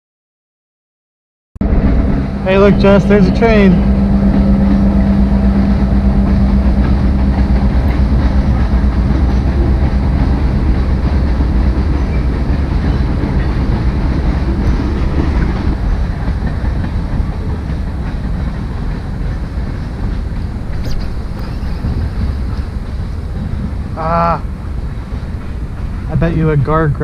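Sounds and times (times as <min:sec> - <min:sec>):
train wheels clattering on track: 0:01.6 - 0:27.0.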